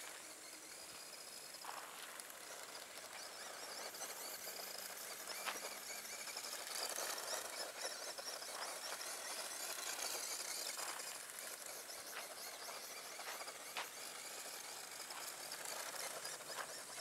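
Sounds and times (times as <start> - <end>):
electric motor whining: 0.0 - 17.0
tyres hissing over gravel: 0.0 - 17.0.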